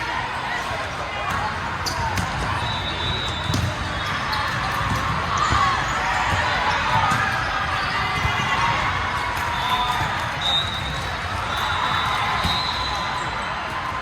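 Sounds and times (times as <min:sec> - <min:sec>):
players' voices and shouts: 0:00.0 - 0:14.0
volleyballs struck and bouncing: 0:01.2 - 0:13.4.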